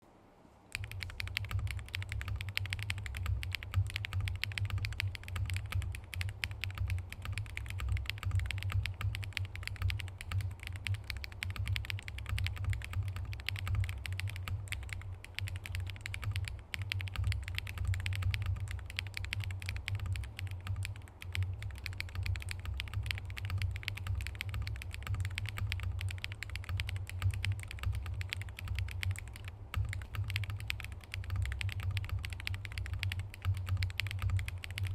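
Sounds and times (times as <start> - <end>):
mechanical keyboard typing: 0.7 - 34.9.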